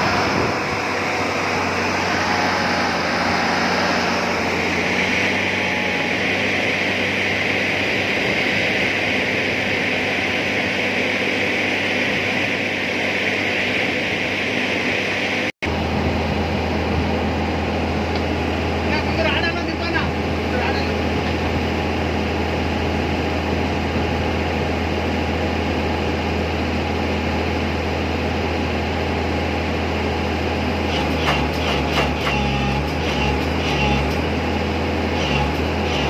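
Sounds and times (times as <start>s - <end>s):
low engine hum: 0.0s - 36.0s.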